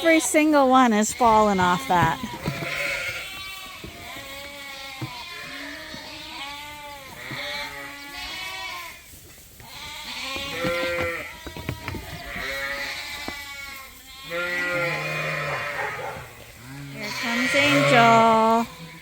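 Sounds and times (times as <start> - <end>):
lambs bleating: 0.0 - 19.0.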